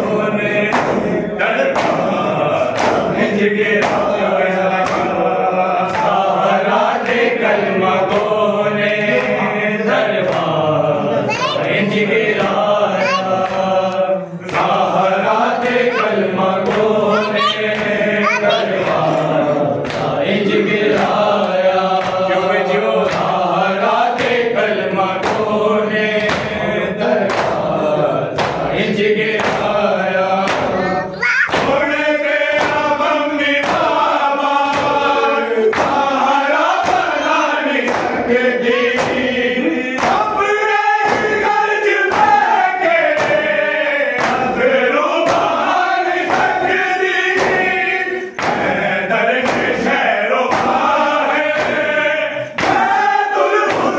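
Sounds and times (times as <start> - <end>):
men chanting in unison: 0.0 - 53.9.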